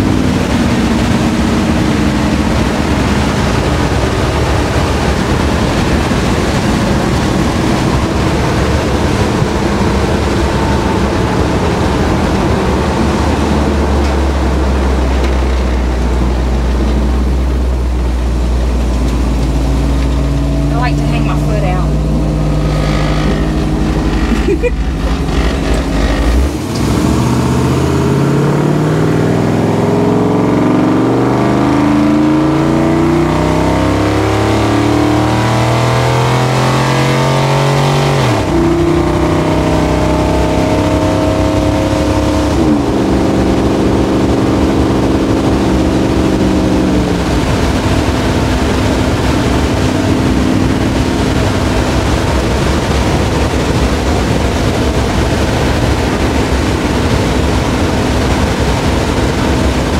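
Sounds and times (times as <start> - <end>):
road and wind noise: 0.0 - 59.9
truck engine accelerating: 0.0 - 59.9.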